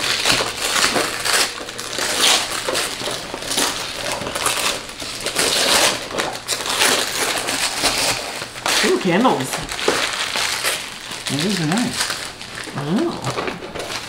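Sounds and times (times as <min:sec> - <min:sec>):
wrapping paper tearing and rustling: 0:00.0 - 0:14.0.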